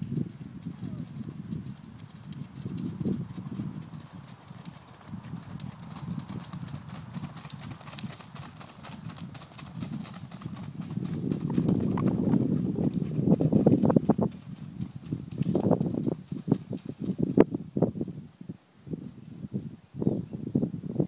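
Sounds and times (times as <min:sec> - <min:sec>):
hooves clip-clopping on gravel: 0:00.0 - 0:17.5.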